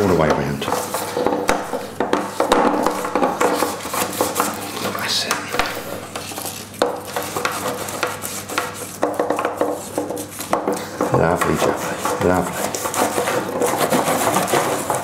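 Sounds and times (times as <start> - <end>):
fingers rubbing inside metal tin: 0.0 - 15.0.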